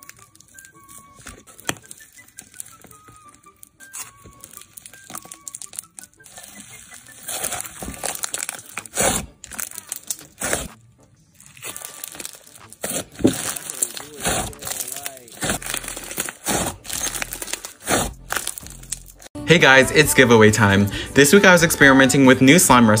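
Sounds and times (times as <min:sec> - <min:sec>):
slime crackling and squishing: 0:00.0 - 0:10.8, 0:11.4 - 0:19.4.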